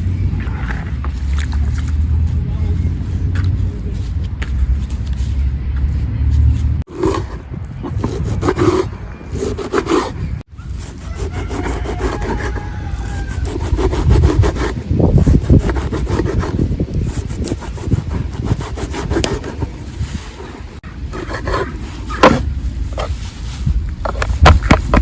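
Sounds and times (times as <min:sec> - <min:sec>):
rough scraping on wood: 0:00.3 - 0:25.0.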